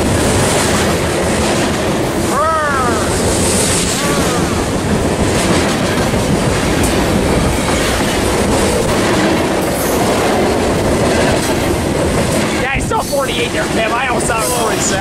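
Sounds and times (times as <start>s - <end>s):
rail clicks: 0.0s - 15.0s
train wheels rumbling on rails: 0.0s - 15.0s.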